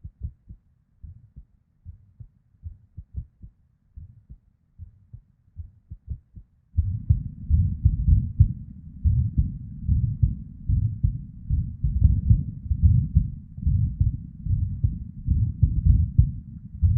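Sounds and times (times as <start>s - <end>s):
irregular heartbeat thumps: 0.0s - 16.9s.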